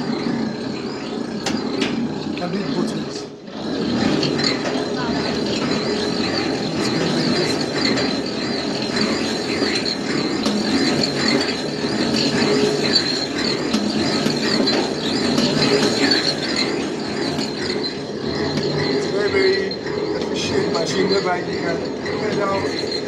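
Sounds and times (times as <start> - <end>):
high wavering squeal: 0.0 - 23.0
pedal washing machine rattling: 0.0 - 23.0.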